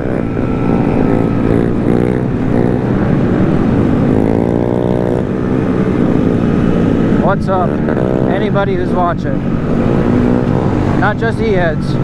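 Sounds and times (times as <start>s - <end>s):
motorcycle engine revving: 0.0s - 12.0s
small motorcycle engines running: 0.0s - 12.0s.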